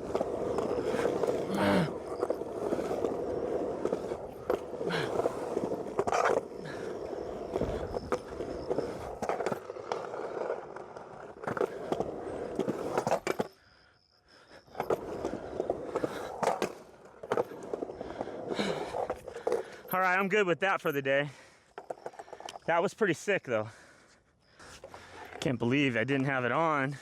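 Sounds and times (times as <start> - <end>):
skateboard clacks and scrapes: 0.0 - 13.6, 14.4 - 22.7, 24.5 - 25.6
skateboard wheels rolling: 0.0 - 27.0.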